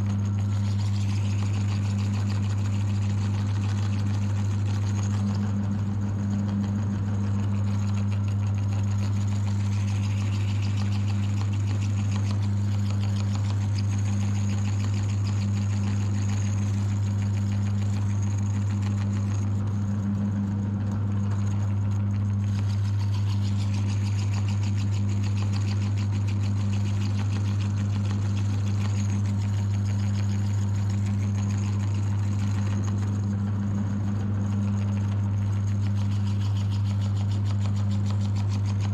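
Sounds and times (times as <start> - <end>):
electric meat grinder motor humming: 0.0 - 38.9.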